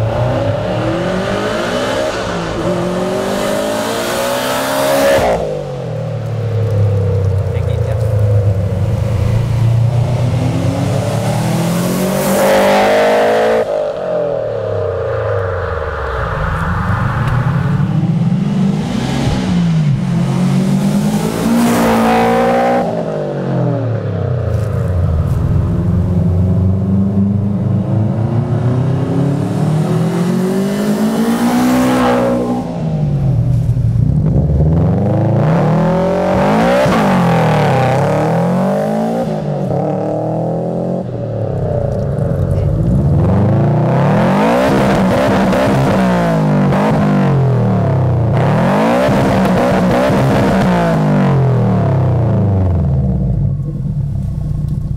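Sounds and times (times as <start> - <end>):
car accelerating past: 0.0 - 53.8.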